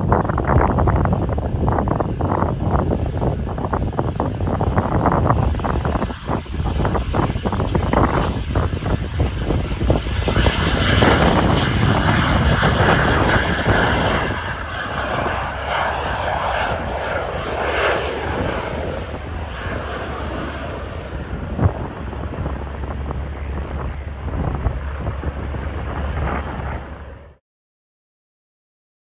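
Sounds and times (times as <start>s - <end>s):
high engine whine: 0.0s - 27.4s
jet engines at takeoff: 0.0s - 27.4s.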